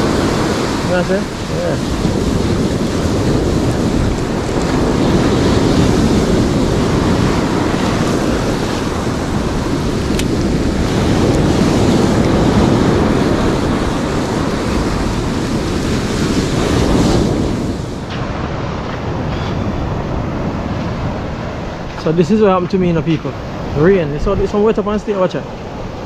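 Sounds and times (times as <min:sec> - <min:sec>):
surf breaking on a beach: 0:00.0 - 0:26.0
wind buffeting the microphone: 0:00.0 - 0:26.0.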